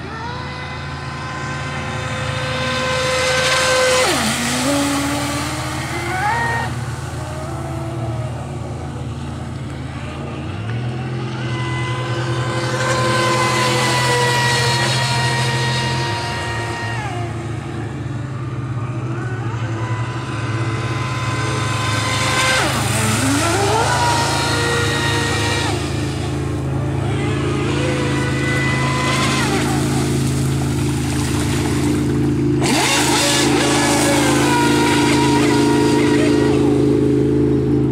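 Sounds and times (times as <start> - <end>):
rc speedboat electric motor whine: 0.0 - 37.9
steady low hum: 0.0 - 37.9.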